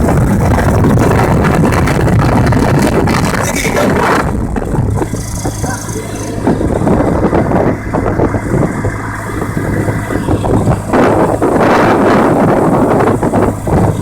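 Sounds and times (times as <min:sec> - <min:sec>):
aircraft engine and propeller hum: 0:00.0 - 0:14.0
wind buffeting microphone: 0:00.0 - 0:14.0.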